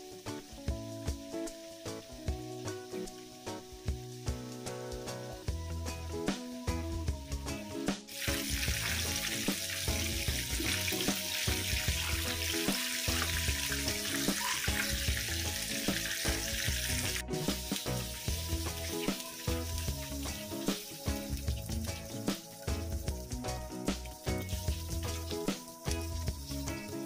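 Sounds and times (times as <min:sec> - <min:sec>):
chicken deep-frying in oil: 0:00.0 - 0:05.6, 0:06.3 - 0:27.0
background music: 0:00.0 - 0:27.0.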